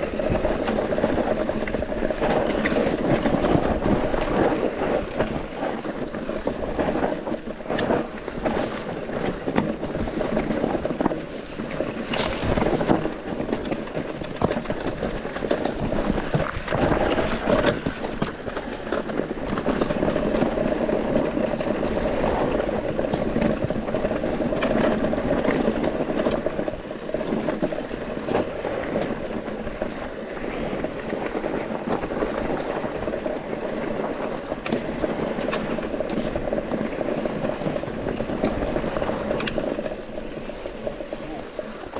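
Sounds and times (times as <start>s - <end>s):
bike knocking and rattling: 0.0s - 41.9s
wind and tyre noise: 0.0s - 41.9s.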